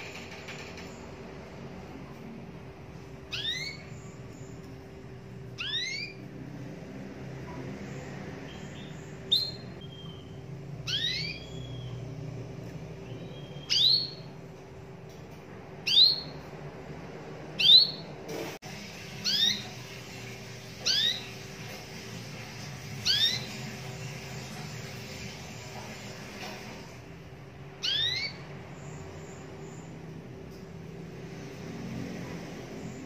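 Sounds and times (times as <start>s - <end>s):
canary chirping: 0.0s - 14.8s, 15.7s - 33.0s.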